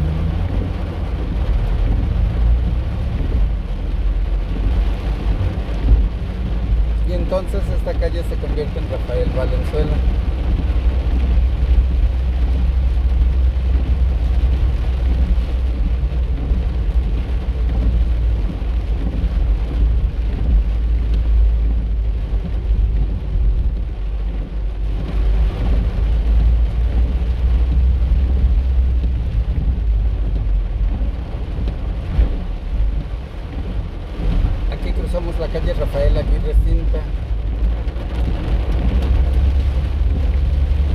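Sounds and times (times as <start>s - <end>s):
car interior rumble: 0.0s - 40.9s
rain hissing: 0.0s - 40.9s
tyres on wet road: 0.0s - 40.9s.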